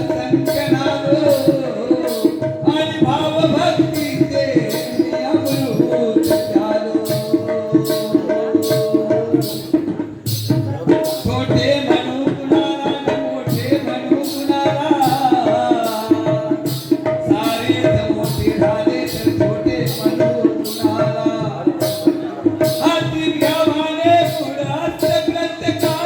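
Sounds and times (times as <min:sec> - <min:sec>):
hand drum rhythm: 0:00.0 - 0:26.0.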